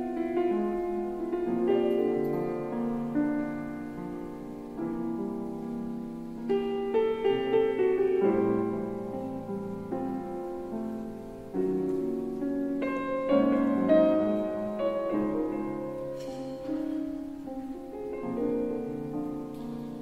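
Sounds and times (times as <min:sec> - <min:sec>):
solo piano chords: 0:00.0 - 0:20.0.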